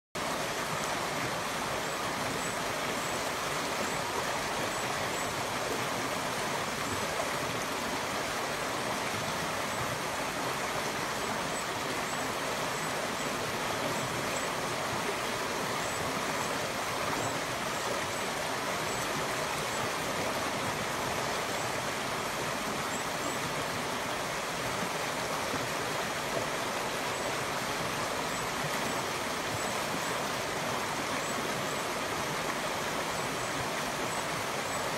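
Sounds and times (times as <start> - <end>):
river rushing over rocks: 0.2 - 34.9.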